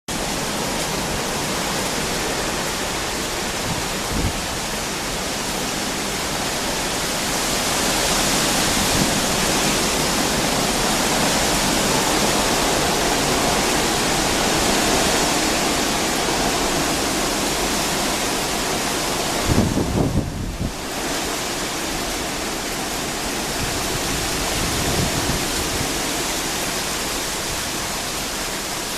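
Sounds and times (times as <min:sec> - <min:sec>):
hurricane wind blowing hard: 0:00.1 - 0:28.9.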